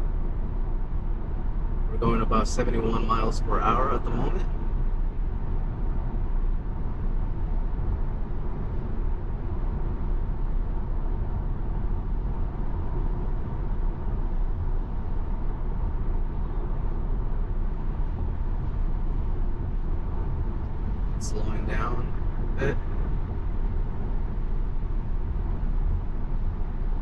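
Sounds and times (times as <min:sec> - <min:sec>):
tyre and wind road noise: 0:00.0 - 0:27.0.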